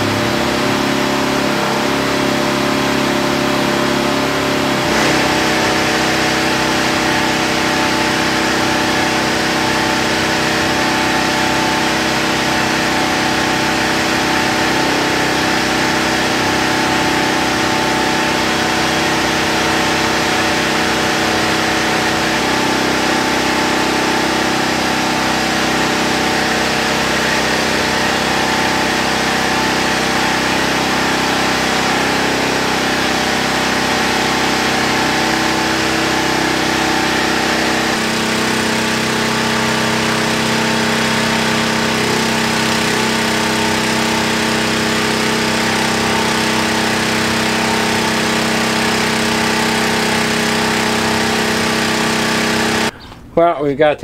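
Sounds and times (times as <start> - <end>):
engine idling: 0.0 - 53.4.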